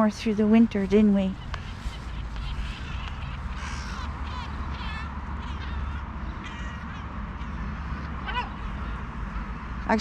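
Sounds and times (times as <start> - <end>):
ducks quacking: 0.9 - 10.0
crows cawing: 1.3 - 9.8.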